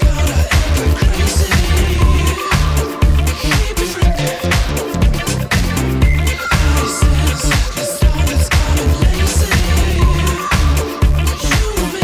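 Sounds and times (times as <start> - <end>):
dance music with steady beat: 0.0 - 12.0.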